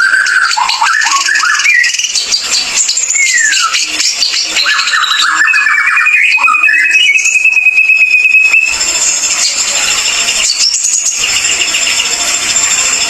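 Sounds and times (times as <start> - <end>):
bird whistle and chatter: 0.0 - 13.0.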